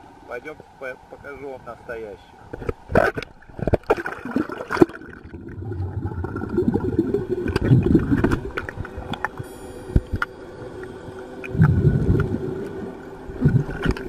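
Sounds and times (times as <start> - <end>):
underwater bubbles gurgling: 2.5 - 14.0.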